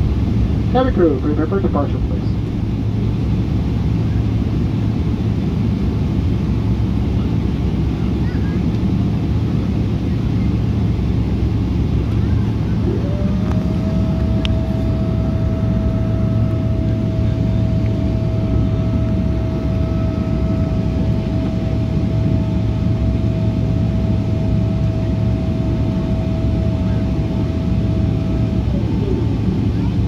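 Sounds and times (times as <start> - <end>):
jet engine rumble in cabin: 0.0 - 30.0
jet engine whine: 0.0 - 30.0.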